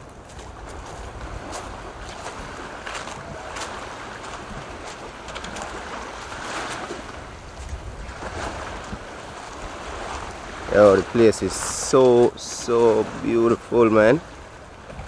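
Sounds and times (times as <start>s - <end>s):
sea waves washing onto beach: 0.0s - 15.0s
wind rumbling on microphone: 0.0s - 15.0s.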